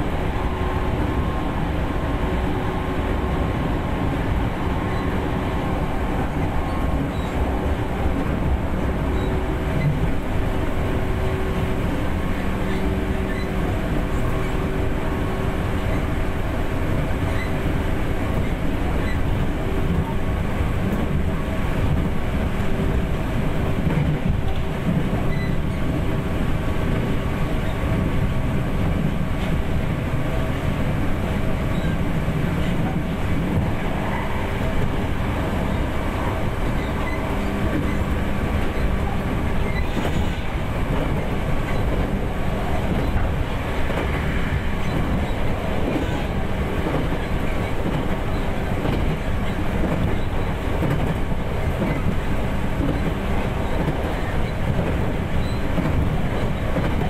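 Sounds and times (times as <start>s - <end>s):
train wheels clattering on rails: 3.6s - 57.0s.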